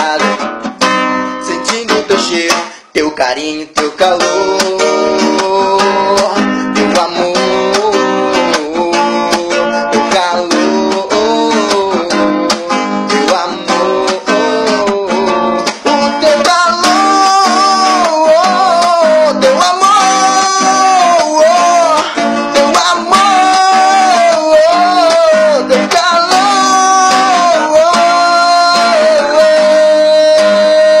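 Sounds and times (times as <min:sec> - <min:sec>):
acoustic guitar strumming: 0:00.0 - 0:31.0
man singing wordlessly: 0:00.0 - 0:31.0.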